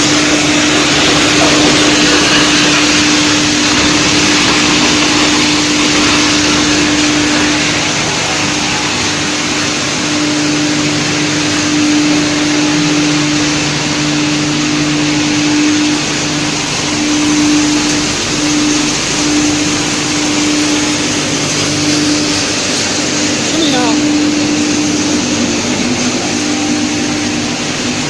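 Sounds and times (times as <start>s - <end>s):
wood chipper running: 0.0s - 28.0s.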